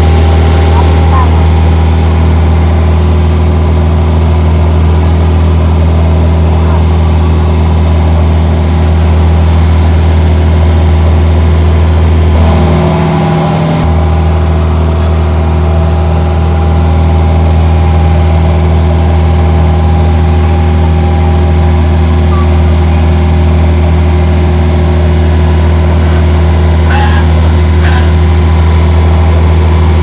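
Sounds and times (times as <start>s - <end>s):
engine low drone: 0.0s - 30.0s.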